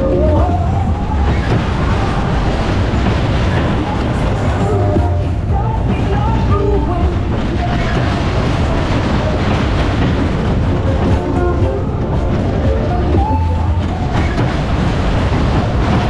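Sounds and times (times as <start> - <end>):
loud music with heavy bass: 0.0 - 16.0
ride cars rumbling on track: 0.0 - 16.0.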